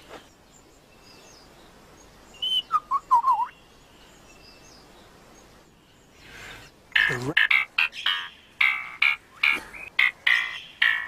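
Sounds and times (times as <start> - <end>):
lyrebird singing: 0.6 - 11.0.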